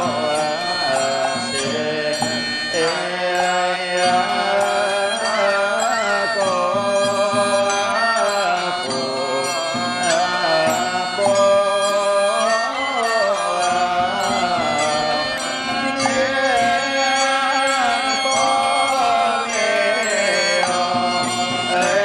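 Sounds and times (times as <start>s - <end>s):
monks chanting: 0.0s - 22.0s.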